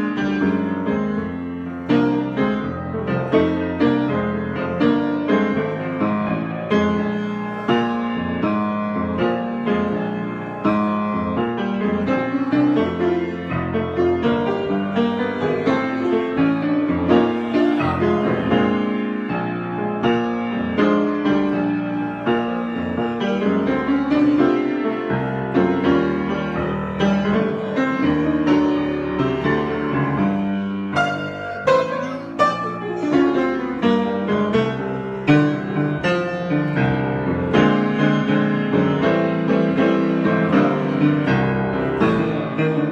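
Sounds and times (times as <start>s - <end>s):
solo piano improvisation: 0.0s - 42.9s.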